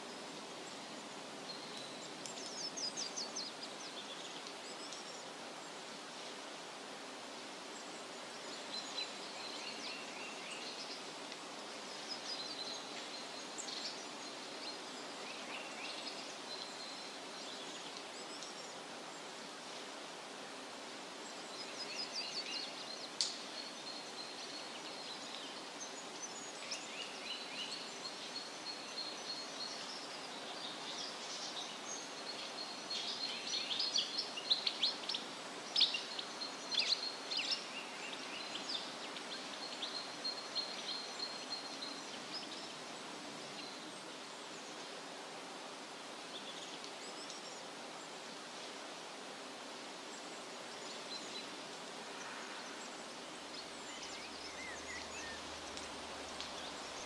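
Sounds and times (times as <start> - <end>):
songbirds chirping and trilling: 0.0 - 57.0
stream running over rocks: 0.0 - 57.0.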